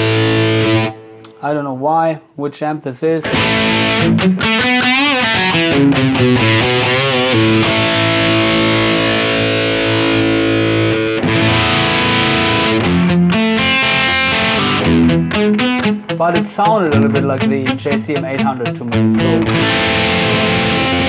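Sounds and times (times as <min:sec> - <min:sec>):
distorted electric guitar: 0:00.0 - 0:01.4, 0:03.2 - 0:21.0.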